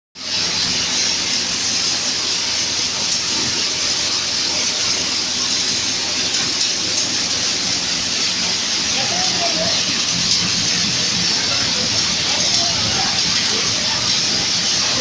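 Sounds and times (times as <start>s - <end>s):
machine hissing: 0.2s - 15.0s.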